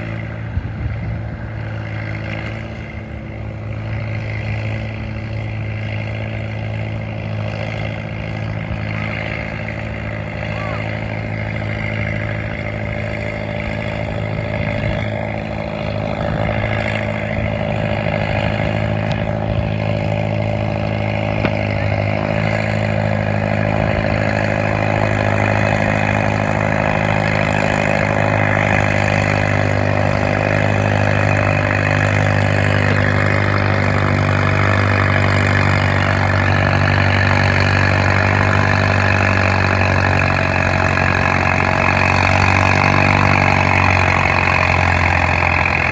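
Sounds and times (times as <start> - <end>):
tractor engine droning: 0.0 - 45.9.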